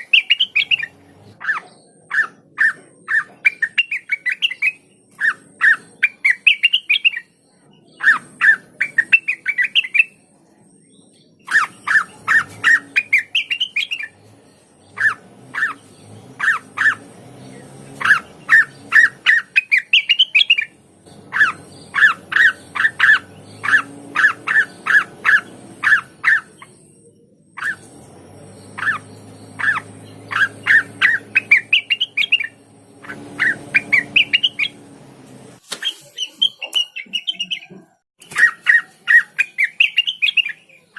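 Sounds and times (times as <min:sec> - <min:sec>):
bird singing sharp notes: 0:00.0 - 0:35.0, 0:35.6 - 0:40.9.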